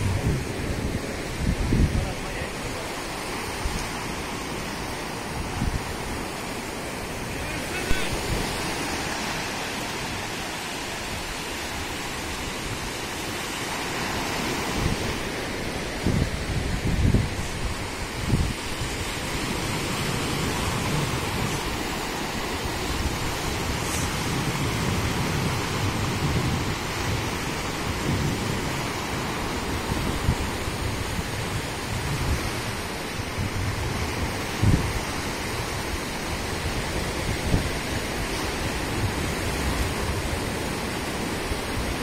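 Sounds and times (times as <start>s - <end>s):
surf breaking on shore: 0.0s - 42.0s
wind buffeting microphone: 0.0s - 42.0s.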